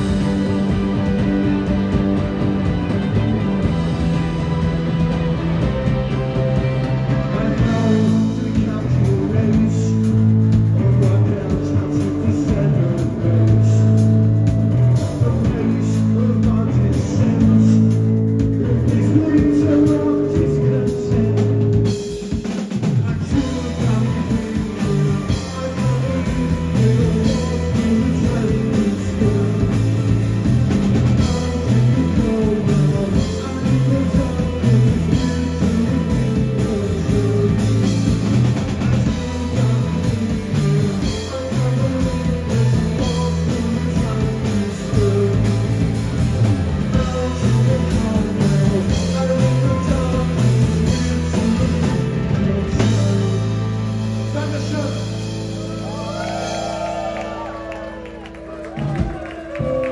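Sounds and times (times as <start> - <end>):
rock band playing: 0.0 - 59.9
man singing: 6.6 - 58.1.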